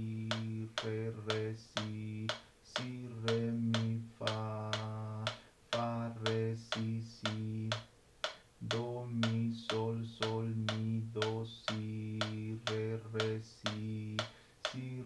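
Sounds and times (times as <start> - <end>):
man singing note names: 0.0 - 15.0
metronome click: 0.0 - 15.0.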